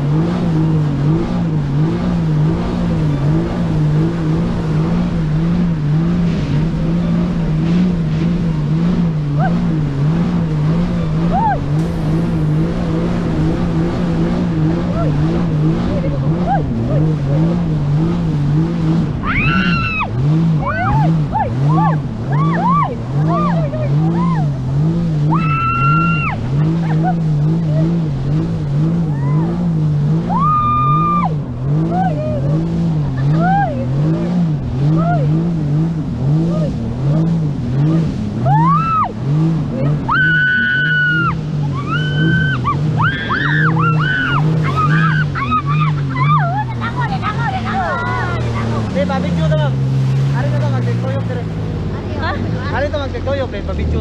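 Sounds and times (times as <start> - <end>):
dense rushing noise: 0.0 - 52.1
jet ski engine running: 0.0 - 54.0.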